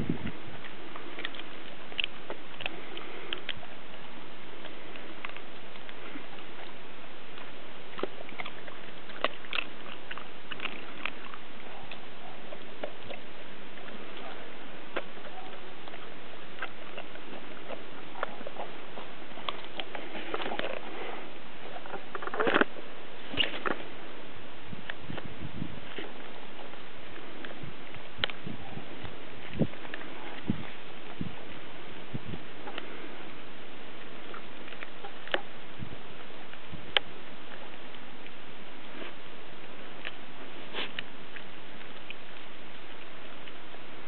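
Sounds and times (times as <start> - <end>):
background hiss: 0.0 - 44.0
dogs chewing food: 0.0 - 44.0.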